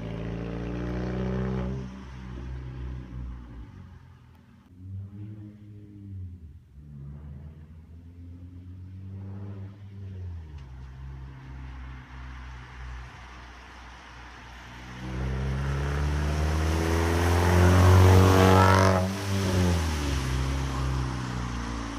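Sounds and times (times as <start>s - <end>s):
car exhaust driving by: 0.0s - 21.9s.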